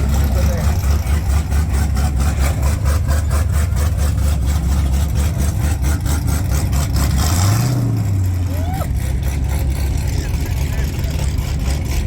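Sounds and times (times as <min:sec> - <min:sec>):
car engine idling: 0:00.0 - 0:07.2, 0:07.9 - 0:12.0.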